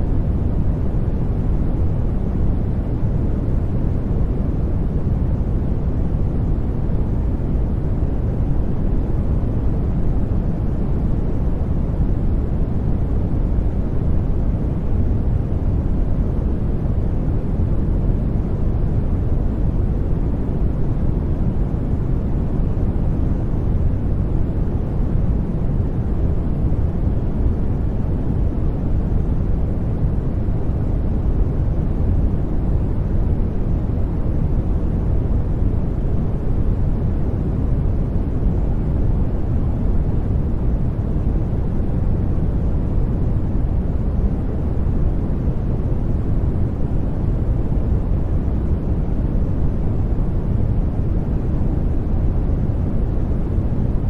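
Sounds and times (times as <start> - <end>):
deep white noise: 0.0 - 54.0.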